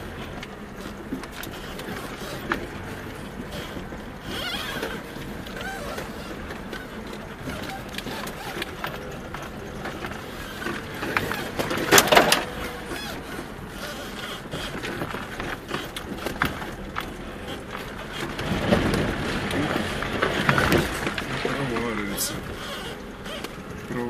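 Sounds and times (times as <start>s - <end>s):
ice cracking under wheels: 0.0s - 24.0s.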